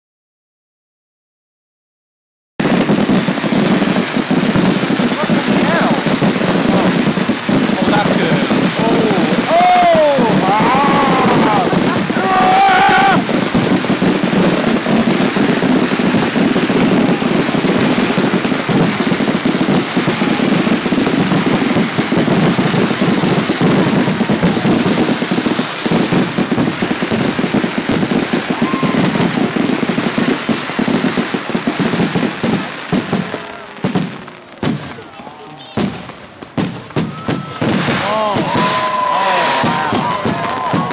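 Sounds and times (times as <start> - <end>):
fireworks bangs and crackling: 2.6 - 40.9.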